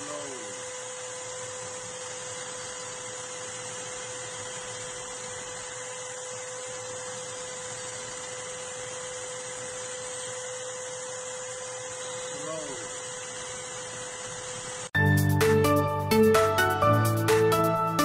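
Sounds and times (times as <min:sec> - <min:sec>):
drill whining: 0:00.0 - 0:15.0.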